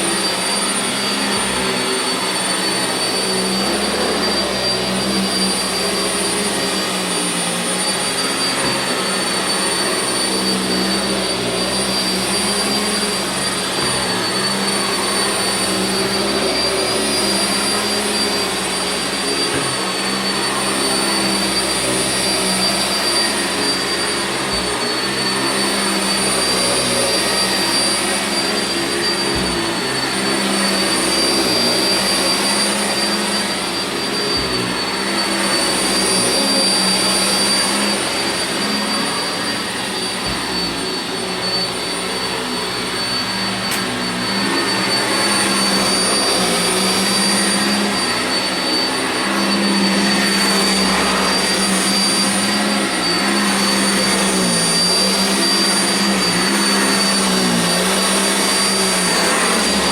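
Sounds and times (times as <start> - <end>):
vacuum cleaner running on carpet: 0.0 - 59.9.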